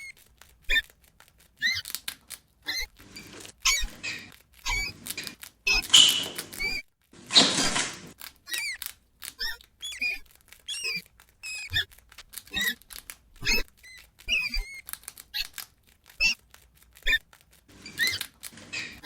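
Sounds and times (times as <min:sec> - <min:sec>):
rats squeaking: 0:00.0 - 0:19.0.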